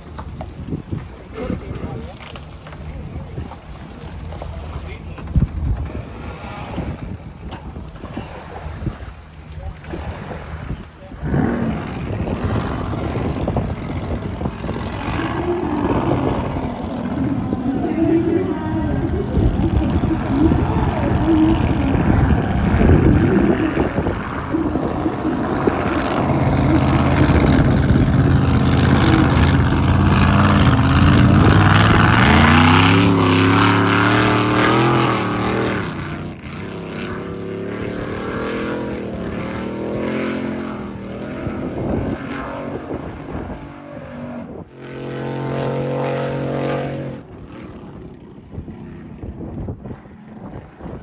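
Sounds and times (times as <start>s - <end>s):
racing boat engine: 0.0s - 51.0s.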